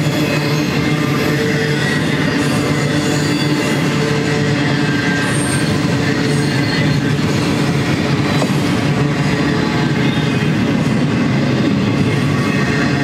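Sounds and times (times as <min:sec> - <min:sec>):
high wheel squeals: 0:00.0 - 0:10.8
steel wheels rumbling on rail: 0:00.0 - 0:13.0.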